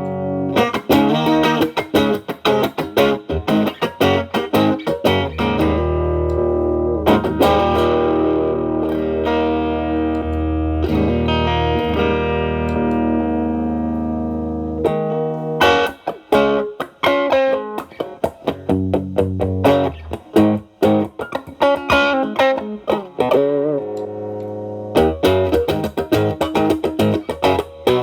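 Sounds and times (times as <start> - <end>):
distorted electric guitar chords: 0.0 - 28.0.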